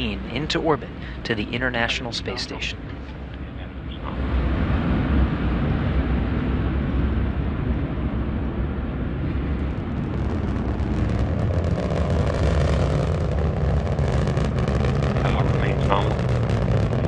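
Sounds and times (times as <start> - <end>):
crackling in rocket rumble: 0.0 - 17.0
rocket engines deep rumble: 0.0 - 17.0.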